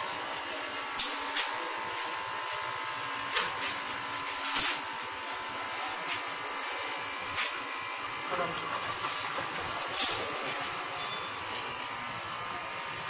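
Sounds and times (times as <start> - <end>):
air compressor whining: 0.0 - 13.0.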